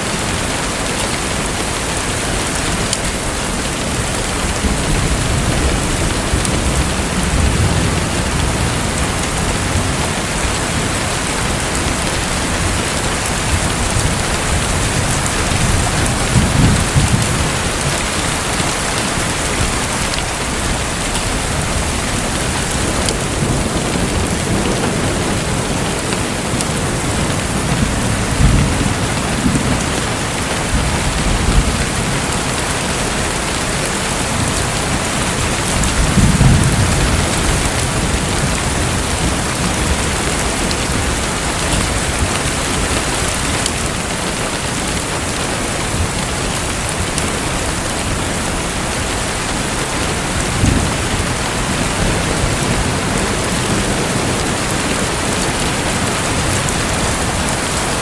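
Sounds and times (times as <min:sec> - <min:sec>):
water splashing and rushing: 0:00.0 - 0:58.0.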